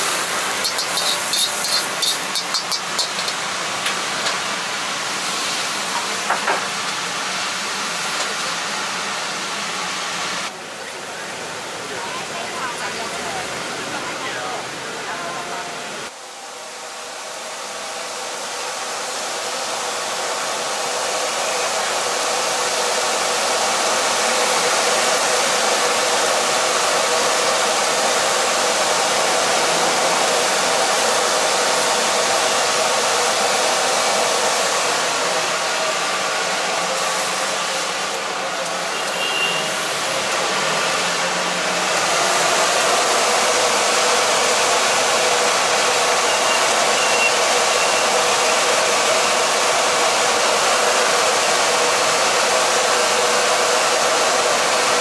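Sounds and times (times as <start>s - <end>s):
gas burner rushing: 0.0s - 10.5s, 19.9s - 55.0s.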